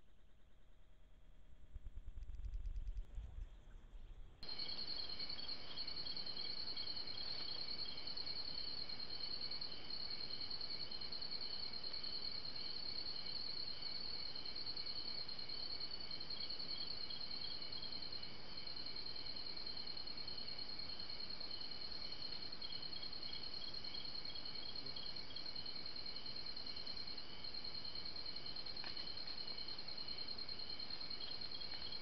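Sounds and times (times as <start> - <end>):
insects trilling: 4.4 - 32.0.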